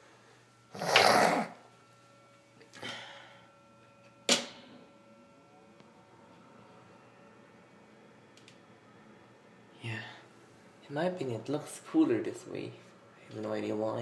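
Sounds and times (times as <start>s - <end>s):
exhaust fan hum: 0.0s - 14.0s.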